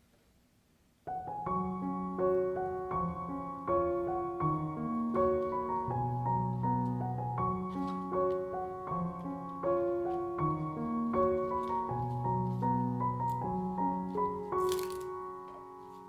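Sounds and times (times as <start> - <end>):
gentle piano melody: 1.0 - 16.0.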